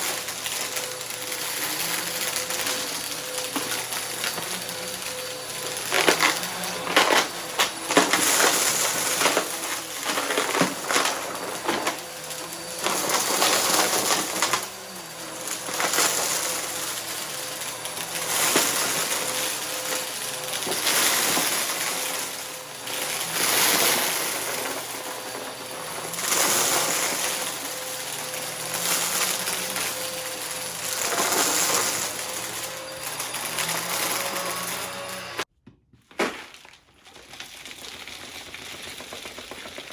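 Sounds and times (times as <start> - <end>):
debris crunching and rattling: 0.0 - 35.4, 36.1 - 39.9
vacuum cleaner running: 0.0 - 35.5, 38.1 - 39.9.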